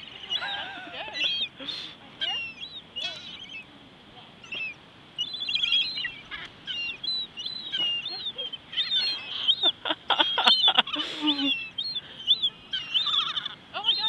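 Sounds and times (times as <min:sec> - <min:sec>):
seagulls squawking: 0:00.0 - 0:03.7, 0:04.4 - 0:14.0.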